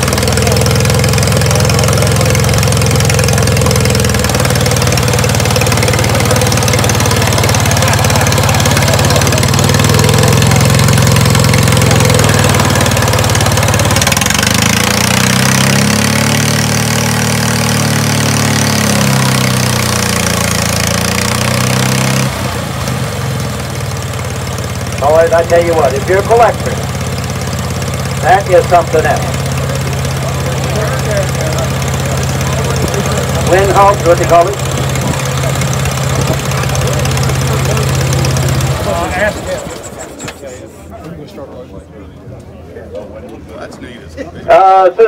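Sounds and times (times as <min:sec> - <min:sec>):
crawler tractor engine running: 0:00.0 - 0:40.9.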